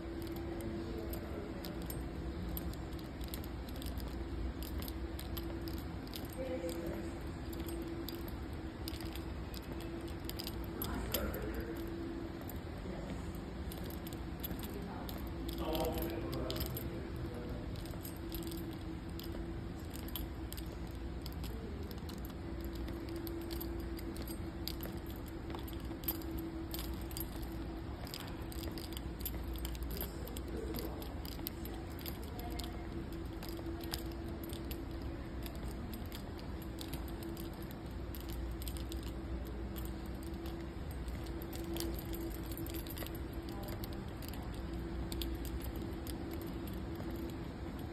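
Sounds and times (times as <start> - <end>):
low hum with held tone: 0.0 - 47.9
small clicks and jingles: 0.0 - 47.9.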